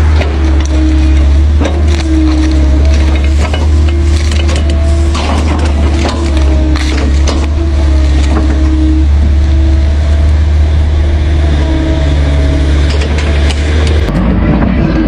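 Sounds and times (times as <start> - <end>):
excavator diesel engine running: 0.0 - 15.0
hydraulic whine: 0.0 - 15.0.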